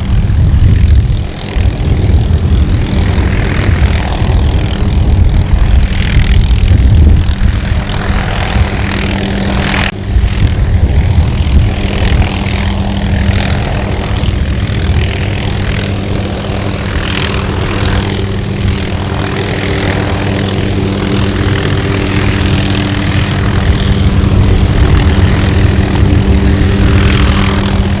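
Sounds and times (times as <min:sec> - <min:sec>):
helicopter drone: 0:00.0 - 0:28.0.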